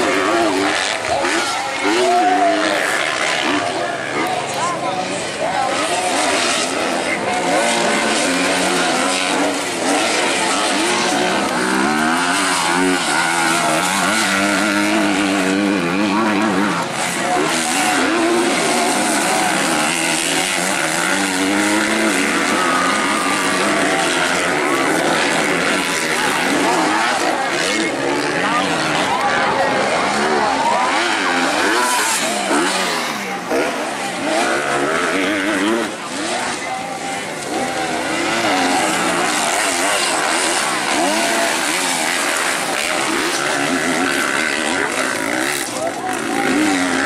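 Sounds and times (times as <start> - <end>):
high engine whine: 0.0 - 47.0
motocross bike engines revving: 0.0 - 47.0.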